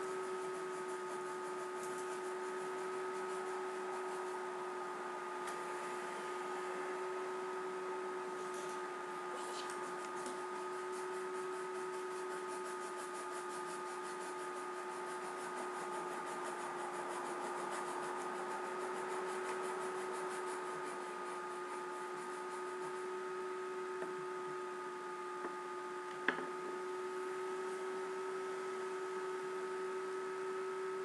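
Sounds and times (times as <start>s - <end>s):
faint whining tones: 0.0s - 13.1s, 16.5s - 31.0s.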